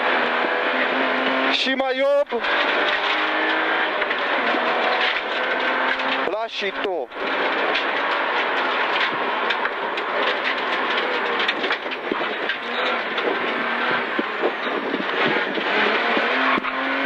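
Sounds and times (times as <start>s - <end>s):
car engine and road noise: 0.0s - 17.0s
steady engine tones: 0.0s - 17.0s.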